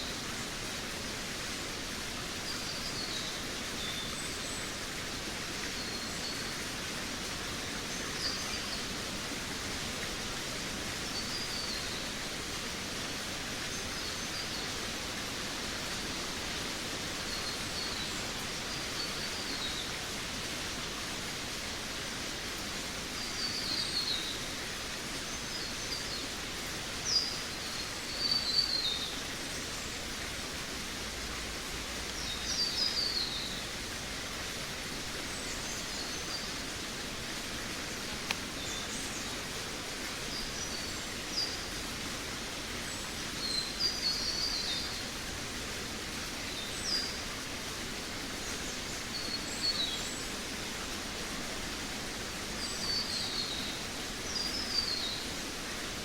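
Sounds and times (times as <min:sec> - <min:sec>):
forest ambience hiss: 0:00.0 - 0:56.0.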